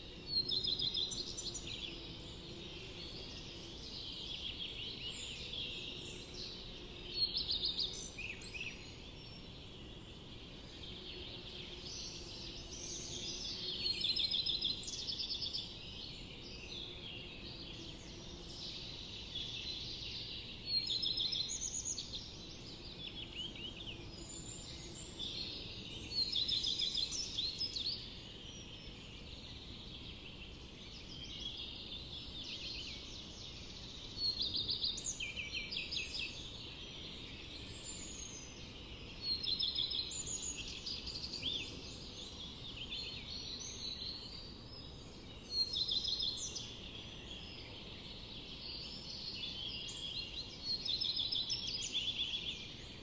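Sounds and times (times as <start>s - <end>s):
bird chirping song: 0.0s - 53.0s
low background hiss: 0.0s - 53.0s
other birds singing: 0.0s - 53.0s.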